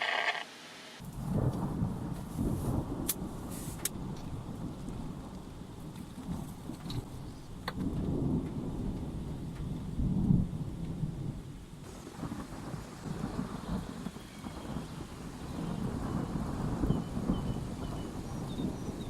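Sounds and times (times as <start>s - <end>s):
rolling thunder: 1.0s - 7.1s, 7.7s - 19.0s.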